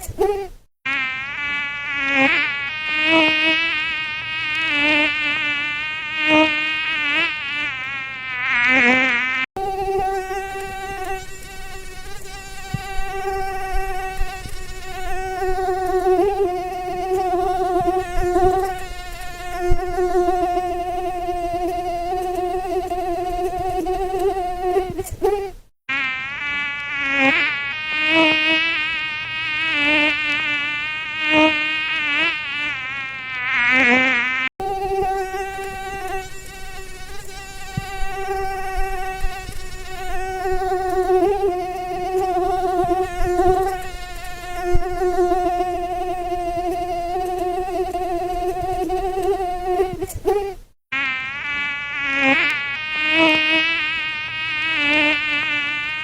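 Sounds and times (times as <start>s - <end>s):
mosquito whining in flight: 0.0s - 56.0s.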